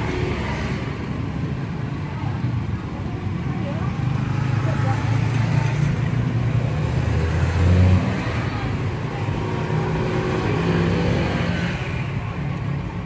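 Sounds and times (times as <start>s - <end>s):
cars driving by: 0.0s - 13.0s
motorcycles driving by: 0.0s - 13.0s.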